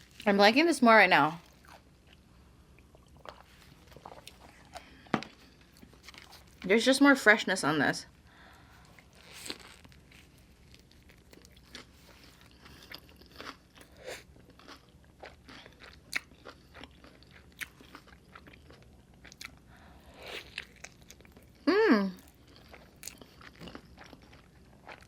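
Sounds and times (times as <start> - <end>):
chewing food close up: 1.4 - 6.6, 8.8 - 21.6, 22.2 - 25.0.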